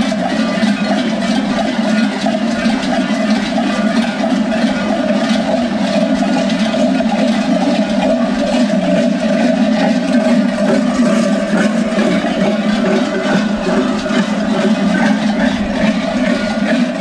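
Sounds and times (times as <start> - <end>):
large goat bells clanging: 0.0 - 17.0.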